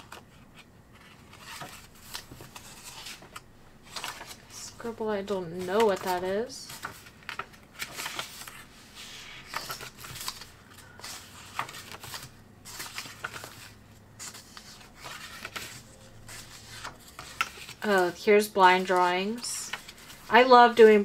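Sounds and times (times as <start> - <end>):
paper pages rustling: 0.0 - 21.0.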